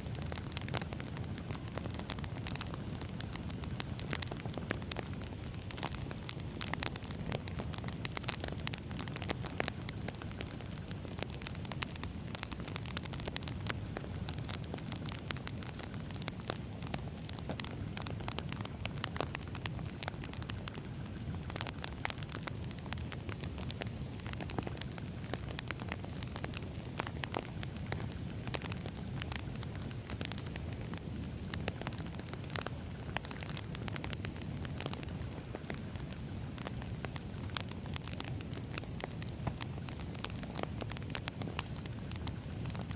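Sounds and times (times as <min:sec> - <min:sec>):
crackles and pops of burning logs: 0:00.0 - 0:42.9
wood fire rumbling: 0:00.0 - 0:42.9.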